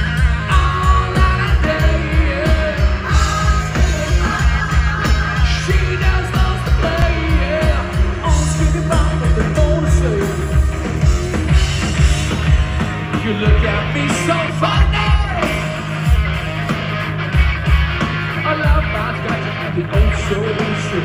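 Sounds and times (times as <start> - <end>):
bass: 0.0 - 21.0
live rock band playing: 0.0 - 21.0
steady drum beat: 0.0 - 21.0.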